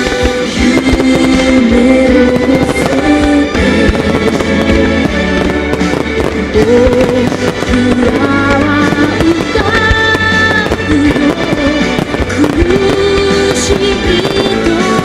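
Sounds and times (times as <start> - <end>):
fireworks exploding: 0.0 - 15.0
pop music playing loudly: 0.0 - 15.0.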